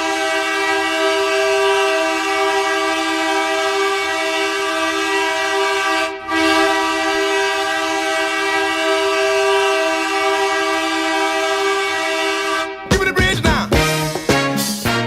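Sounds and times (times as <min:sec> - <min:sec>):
hockey goal horn: 0:00.0 - 0:13.0.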